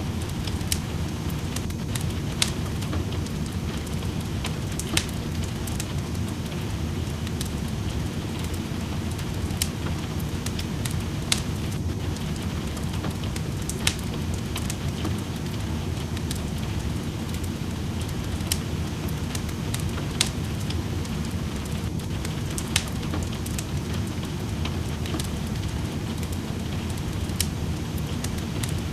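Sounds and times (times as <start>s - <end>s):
rain hissing: 0.0s - 28.9s
wood fire crackling: 0.0s - 28.9s.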